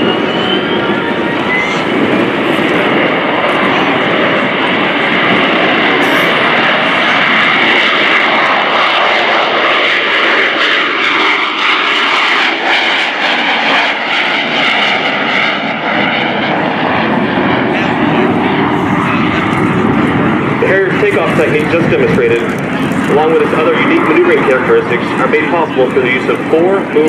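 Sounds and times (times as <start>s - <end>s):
jet engine roaring: 0.0s - 27.0s.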